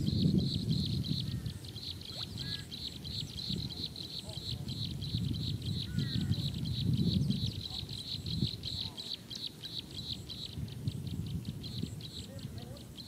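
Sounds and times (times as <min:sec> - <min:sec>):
faint gliding bird calls: 0:00.0 - 0:13.0.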